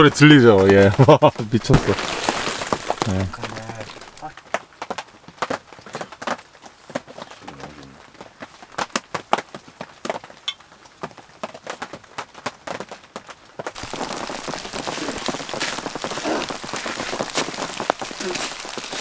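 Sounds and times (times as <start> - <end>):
rain pattering on tent fabric: 0.0 - 19.0.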